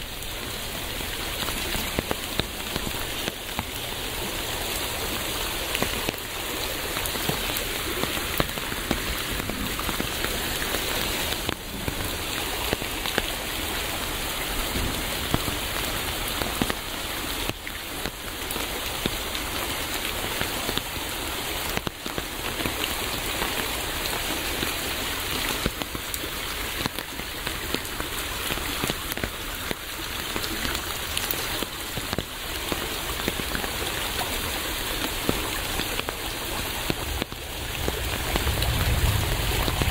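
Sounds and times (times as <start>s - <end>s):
rain hissing: 0.0s - 39.9s
raindrops tapping on a surface: 0.0s - 39.9s.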